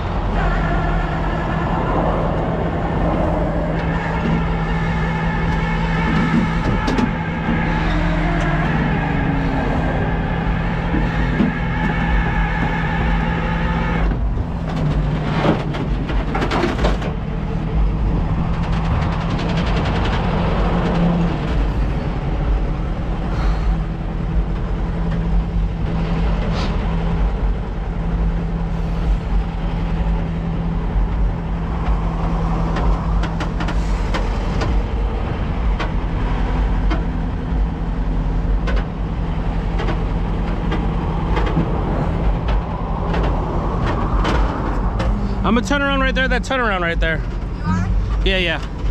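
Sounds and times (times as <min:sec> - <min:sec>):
road rumble: 0:00.0 - 0:48.9
truck engine running: 0:00.0 - 0:48.9.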